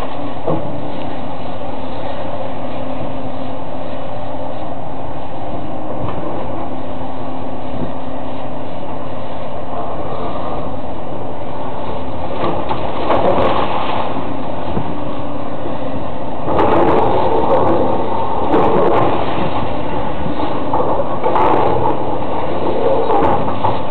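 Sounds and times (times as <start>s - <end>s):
demolition machinery running: 0.0s - 23.9s.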